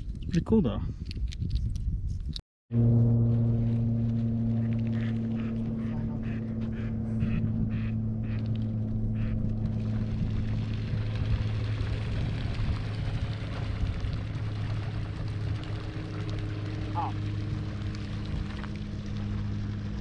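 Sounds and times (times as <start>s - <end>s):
low engine drone: 2.7s - 20.0s.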